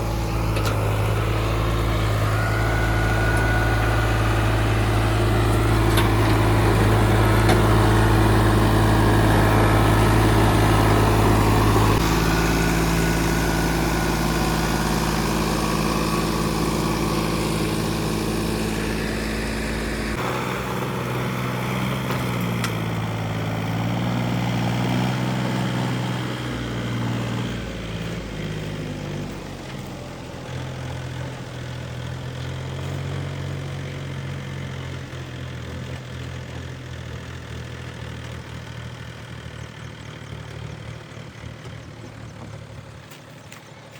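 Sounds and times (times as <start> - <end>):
engine under changing load: 0.0 - 43.9
heavy diesel engines running: 0.0 - 43.9.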